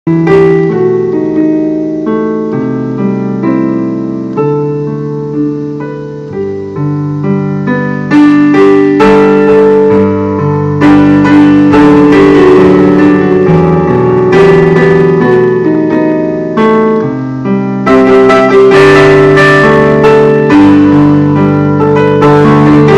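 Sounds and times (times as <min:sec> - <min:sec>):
slow piano chords: 0:00.1 - 0:22.9.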